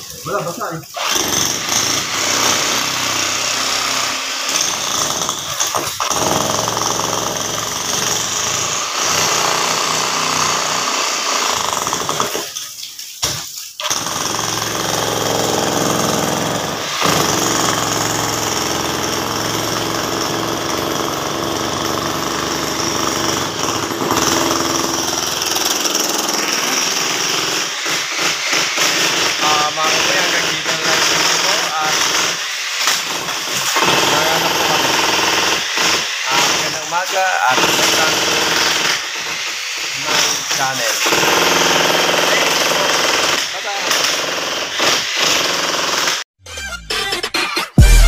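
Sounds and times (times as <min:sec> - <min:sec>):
demolition hammer chiseling ground: 0:00.0 - 0:46.2.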